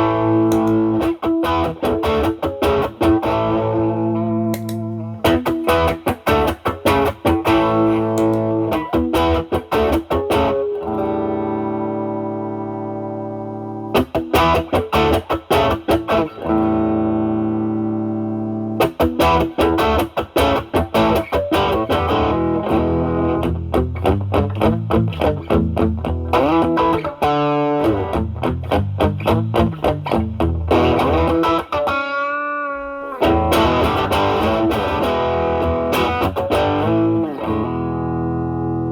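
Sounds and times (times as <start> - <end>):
overdriven electric guitar lead: 0.0 - 38.9.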